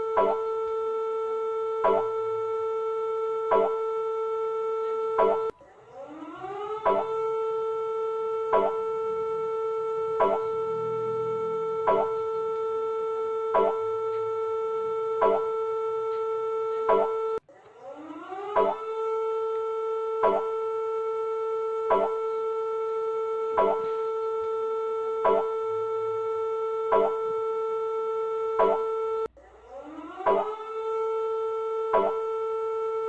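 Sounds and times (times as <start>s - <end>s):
emergency alert siren tone: 0.0s - 33.0s.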